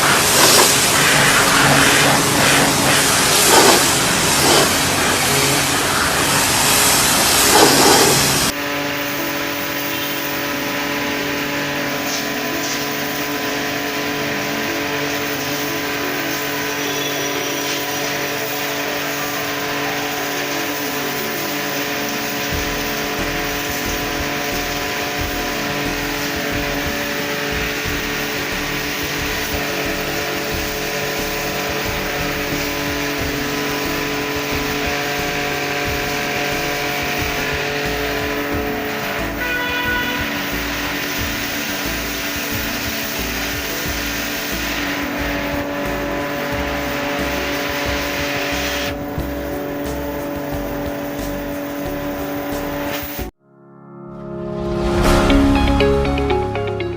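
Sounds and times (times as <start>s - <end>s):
hum with held tones: 0.0s - 53.3s
pressure washer spraying water: 0.0s - 53.4s.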